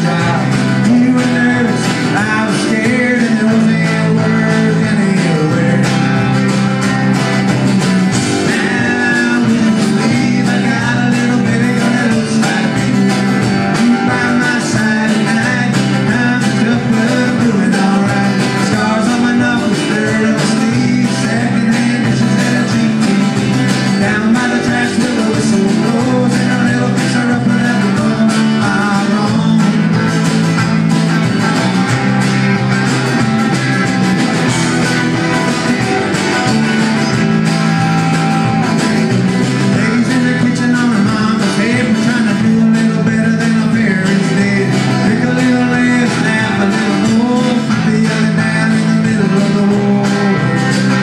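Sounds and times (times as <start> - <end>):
live country-rock band: 0.0 - 51.0.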